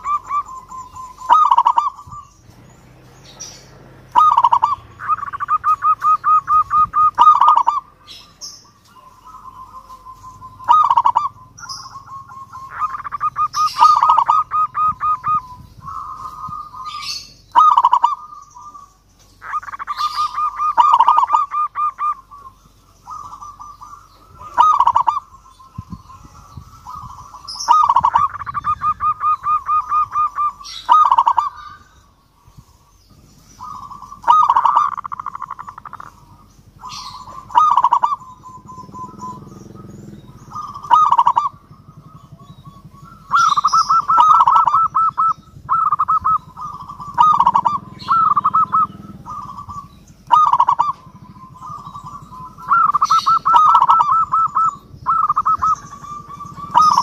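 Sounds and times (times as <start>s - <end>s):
dove trilled cooing: 0.0s - 57.0s
high bird chirps: 0.0s - 57.0s.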